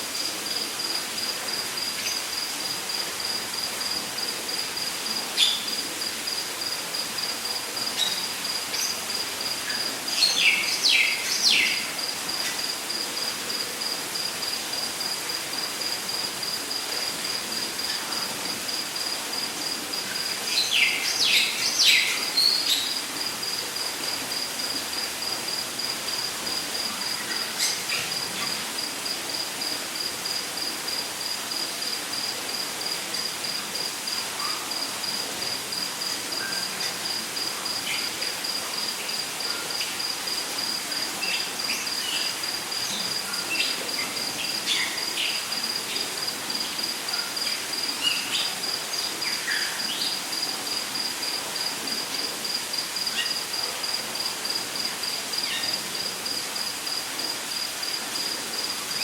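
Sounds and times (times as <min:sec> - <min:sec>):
background hiss: 0:00.0 - 0:59.0.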